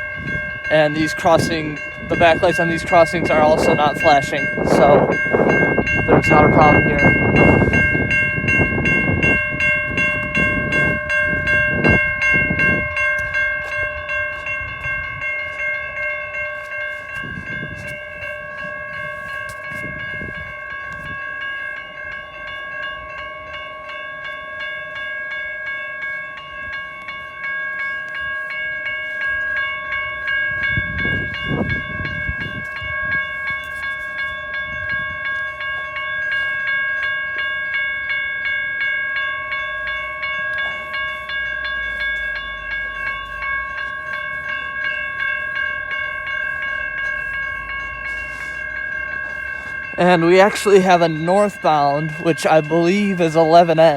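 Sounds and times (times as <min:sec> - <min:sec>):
railroad crossing bell ringing: 0:00.0 - 0:53.9.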